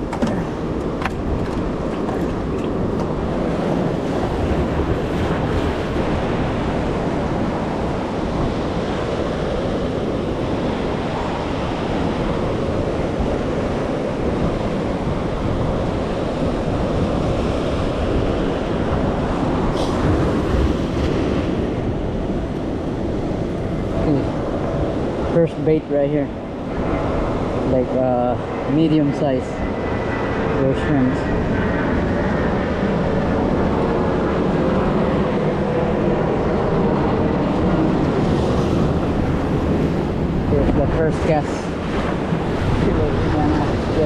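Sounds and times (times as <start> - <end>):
surf washing against rocks: 0.0 - 44.0
wind noise on microphone: 0.0 - 44.0.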